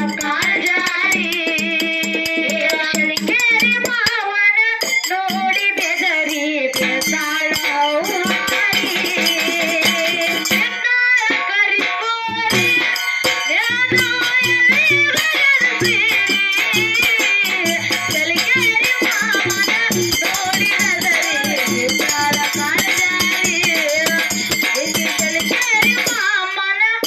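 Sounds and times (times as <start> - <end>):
hand cymbals struck rhythmically: 0.0 - 27.0
person singing: 0.0 - 27.0.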